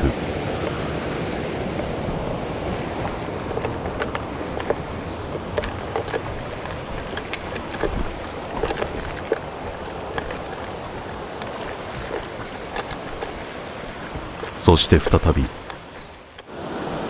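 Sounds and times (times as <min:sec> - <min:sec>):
stream running over stones: 0:00.0 - 0:17.0
footsteps on gravel: 0:00.4 - 0:16.4.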